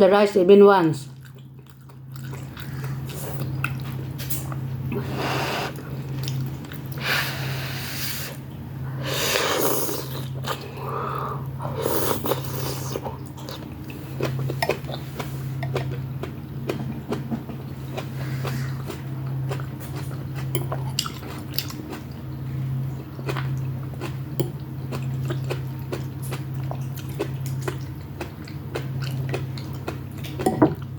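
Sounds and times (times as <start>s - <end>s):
steady low hum: 0.0s - 30.9s
chewing noodles: 1.1s - 7.0s, 9.4s - 30.9s.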